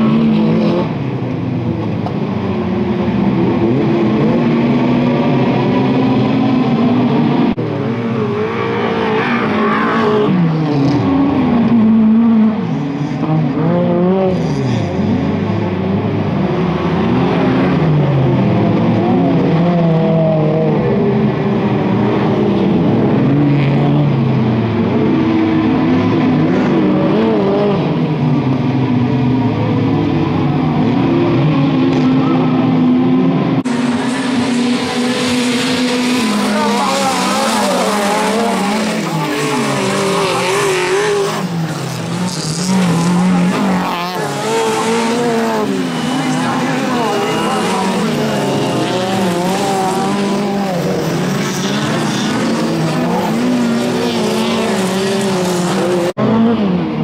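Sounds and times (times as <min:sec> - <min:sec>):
racing car engines revving: 0:00.0 - 0:57.0.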